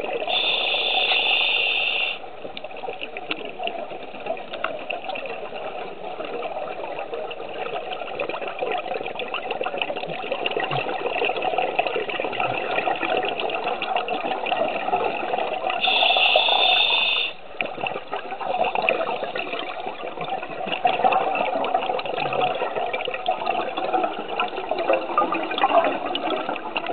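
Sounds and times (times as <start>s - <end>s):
rush of bubbles: 0.0s - 26.9s
regulator bubbling and clicks: 2.4s - 16.8s, 17.5s - 26.9s.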